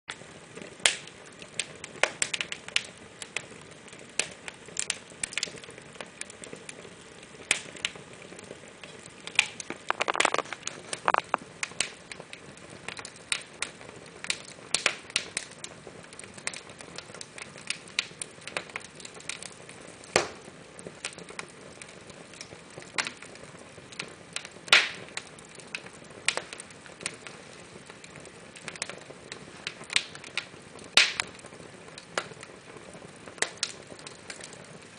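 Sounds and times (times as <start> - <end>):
fire crackling: 0.1 - 34.9.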